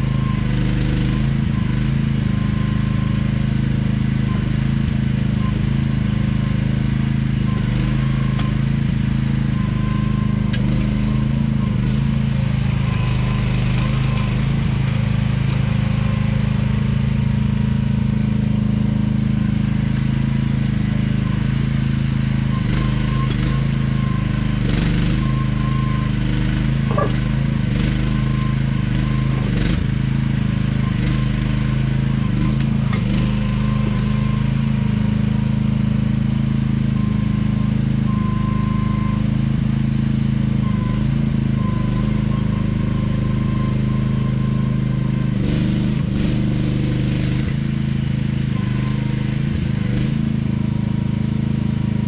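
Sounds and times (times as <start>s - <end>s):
excavator engine running: 0.0s - 52.0s.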